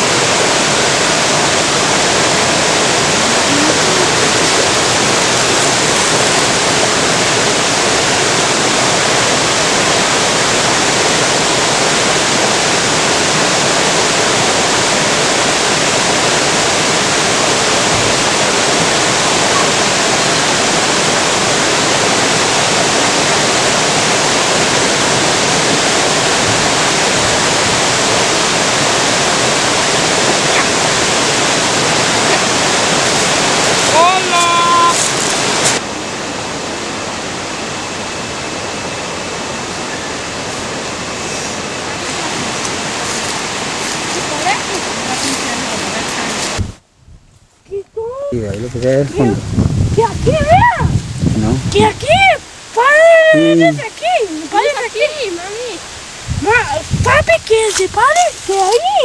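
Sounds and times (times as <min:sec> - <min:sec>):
river water rushing: 0:00.0 - 0:46.9, 0:49.1 - 0:59.0.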